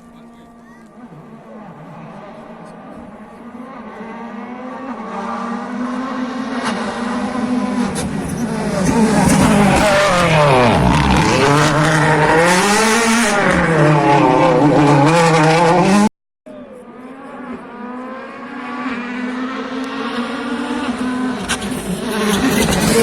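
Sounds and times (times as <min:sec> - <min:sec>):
rally car approaching: 0:00.0 - 0:23.0
rally car engine passing: 0:00.0 - 0:23.0.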